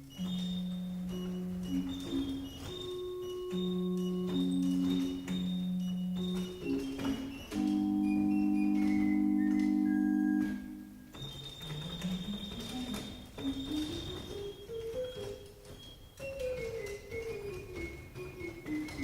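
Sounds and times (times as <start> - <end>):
pipe organ playing: 0.0 - 19.0.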